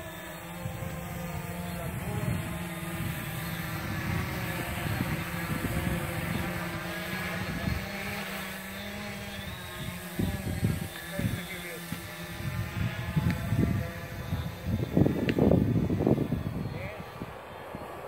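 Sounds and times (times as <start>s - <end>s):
drone motors buzzing: 0.0s - 18.0s.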